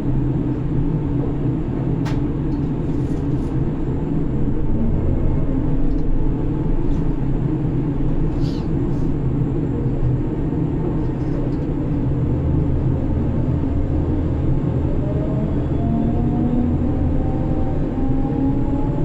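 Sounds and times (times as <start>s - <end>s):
crane machinery drone: 0.1s - 19.0s.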